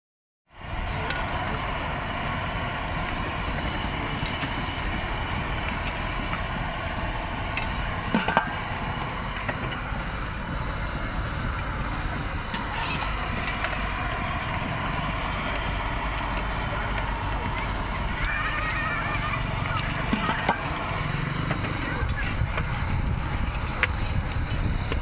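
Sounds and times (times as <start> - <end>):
low traffic rumble: 0.5 - 25.0.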